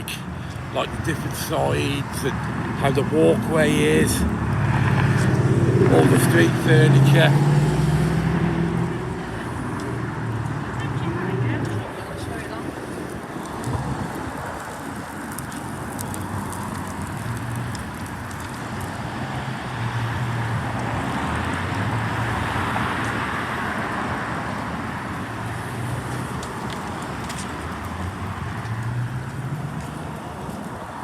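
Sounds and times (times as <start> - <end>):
vehicle passing by: 0.0 - 30.7
road traffic noise: 0.0 - 31.0.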